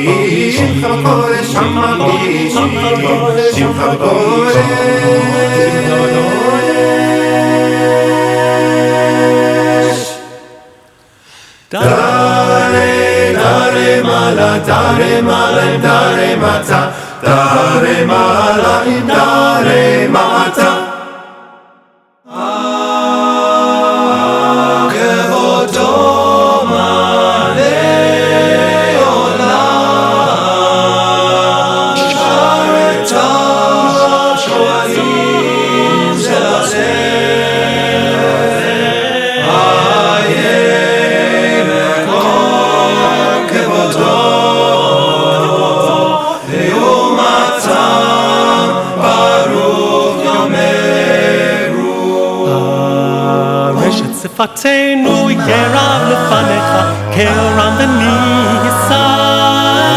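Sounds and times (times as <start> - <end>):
men's choir singing a cappella: 0.0 - 59.9.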